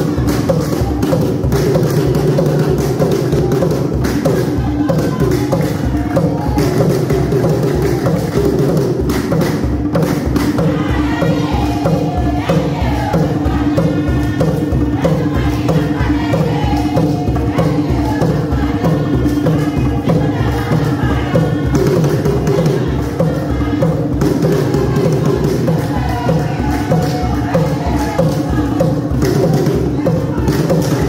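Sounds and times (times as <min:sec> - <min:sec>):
hand drums beating fast: 0:00.0 - 0:31.0
women singing a chant: 0:00.0 - 0:31.0.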